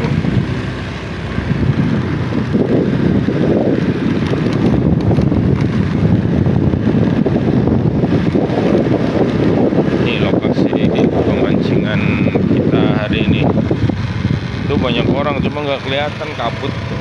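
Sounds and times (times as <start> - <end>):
road noise: 0.0 - 17.0
vehicle engine: 0.0 - 17.0
wind buffeting microphone: 0.0 - 17.0.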